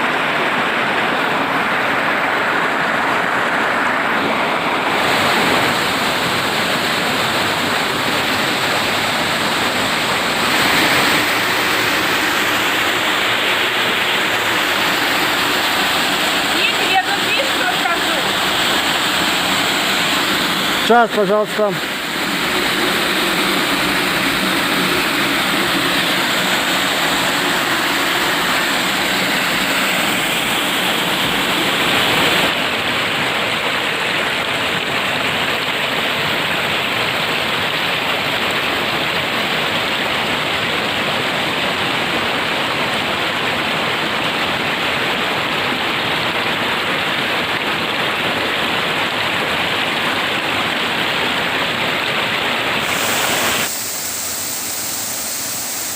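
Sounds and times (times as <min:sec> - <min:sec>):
waterfall rushing and splashing: 0:00.0 - 0:55.9.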